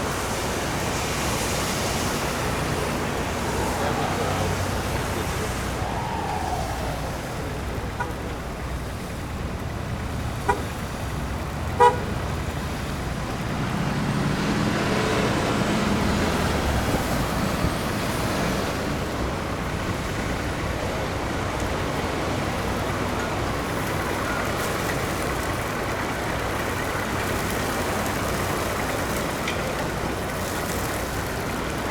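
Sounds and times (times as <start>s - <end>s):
city street traffic: 0.0s - 31.9s
heavy engine rumbling past: 0.0s - 31.9s.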